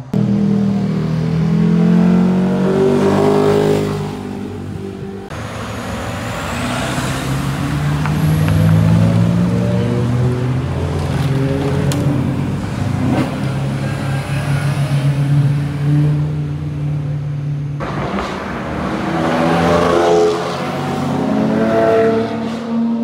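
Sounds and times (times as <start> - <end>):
sports car engine droning: 0.0 - 23.0.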